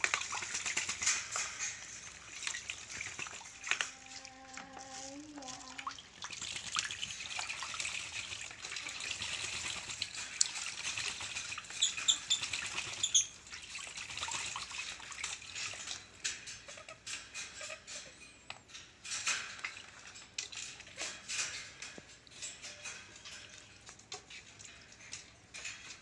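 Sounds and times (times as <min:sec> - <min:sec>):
birds splashing in water: 0:00.0 - 0:04.2, 0:05.5 - 0:17.9, 0:19.0 - 0:26.0
water dripping: 0:00.0 - 0:26.0.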